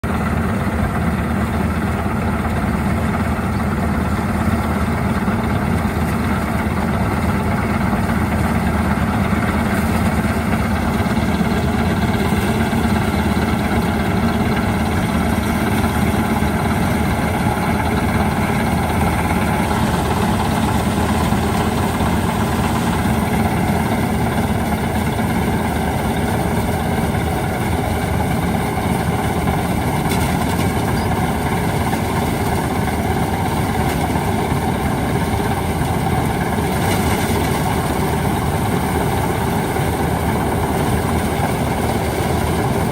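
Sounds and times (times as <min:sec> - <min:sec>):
combine harvester diesel engine: 0:00.0 - 0:42.9.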